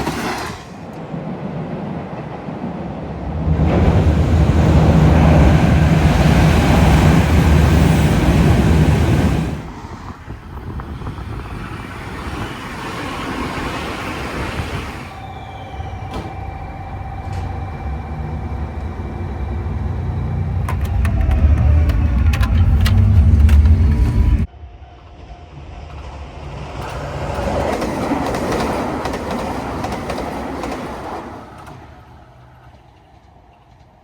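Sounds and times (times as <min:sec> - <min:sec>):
train running with low drone: 0:00.0 - 0:34.0.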